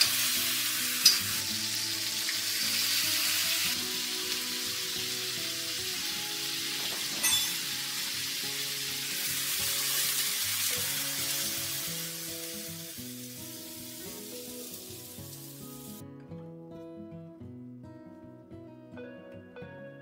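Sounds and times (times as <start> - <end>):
chicken sizzling in hot oil: 0.0 - 16.0
plucked guitar music: 0.0 - 20.0.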